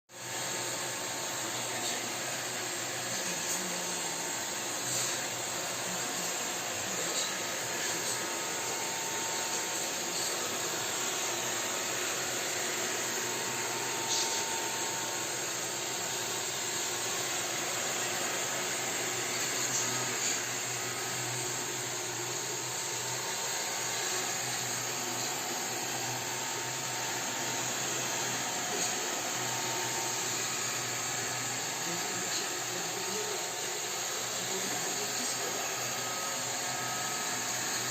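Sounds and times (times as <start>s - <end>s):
robot vacuum cleaner running: 0.2s - 37.9s.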